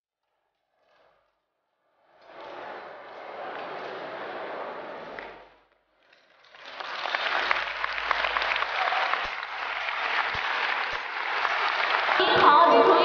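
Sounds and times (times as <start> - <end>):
large audience applauding: 2.2 - 13.0.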